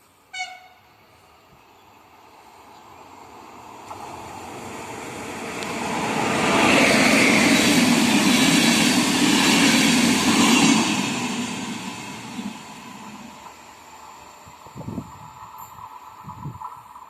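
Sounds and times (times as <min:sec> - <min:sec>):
passing train rumbling on rails: 0:00.3 - 0:17.0.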